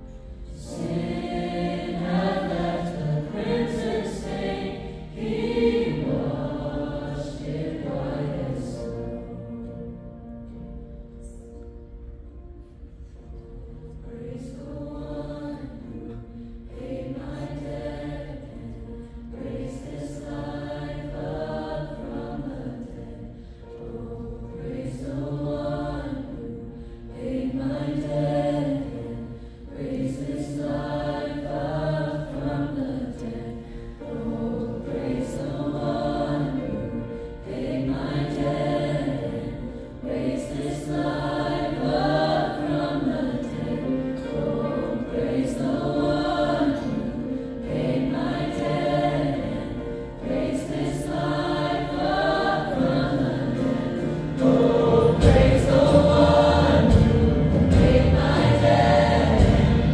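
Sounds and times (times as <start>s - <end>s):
choir singing worship song: 0.0s - 59.9s.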